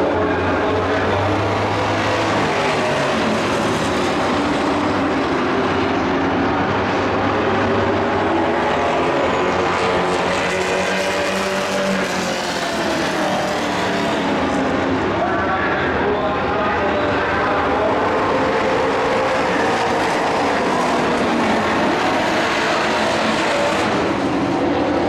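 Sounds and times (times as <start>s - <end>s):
race truck engines roaring: 0.0s - 25.0s.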